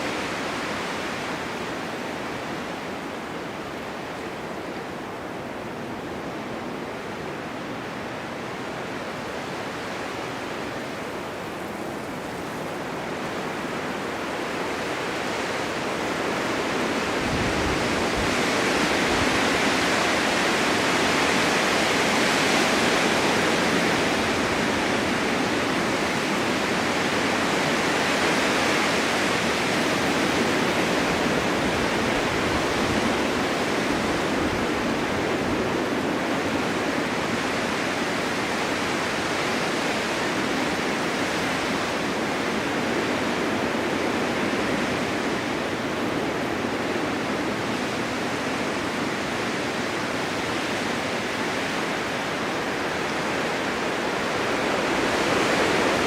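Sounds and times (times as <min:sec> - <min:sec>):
blizzard wind blowing snow: 0:00.0 - 0:56.0.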